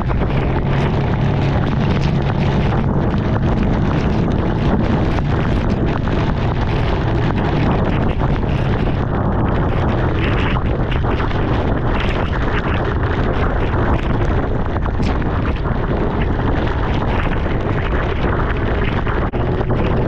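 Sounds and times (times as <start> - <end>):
heavy wind noise on microphone: 0.0 - 20.0
motorcycle engine running: 0.0 - 20.0
road noise: 0.0 - 20.0.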